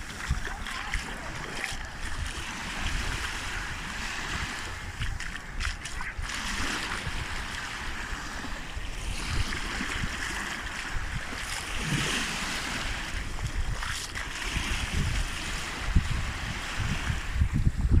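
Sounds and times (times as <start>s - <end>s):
sea waves washing onto beach: 0.0s - 18.0s
wind buffeting microphone: 0.0s - 18.0s.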